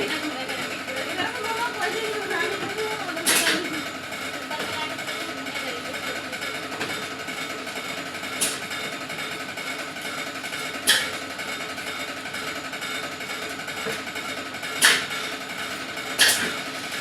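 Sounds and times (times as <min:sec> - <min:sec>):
machine running: 0:00.0 - 0:17.0.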